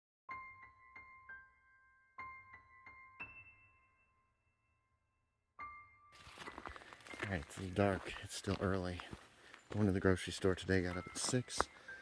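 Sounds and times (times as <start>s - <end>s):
soft piano music: 0.3s - 9.0s, 9.8s - 12.0s.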